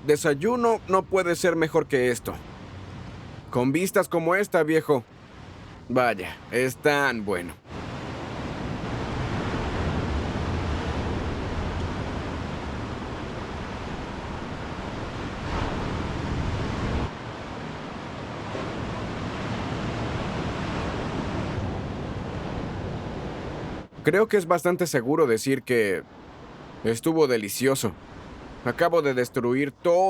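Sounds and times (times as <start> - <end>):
ocean waves washing: 0.0 - 30.0.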